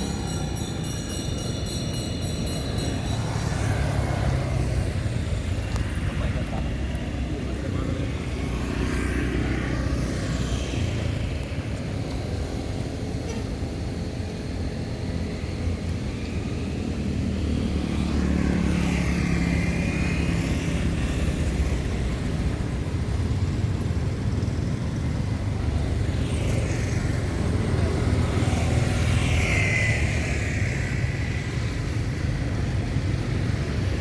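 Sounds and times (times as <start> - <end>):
vehicle engine rumble: 0.0 - 34.0.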